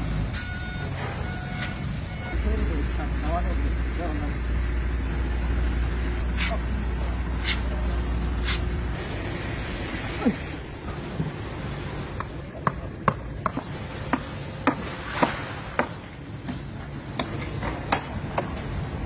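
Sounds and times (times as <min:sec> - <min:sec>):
steady background hum: 0:01.2 - 0:19.0.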